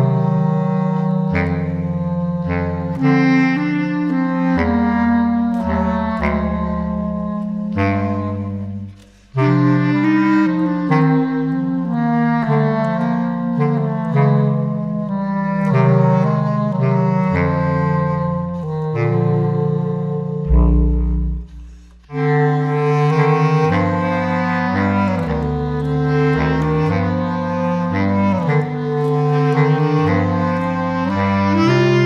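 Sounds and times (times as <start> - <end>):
bass clarinet ensemble playing jazz ballad: 0.0 - 32.0.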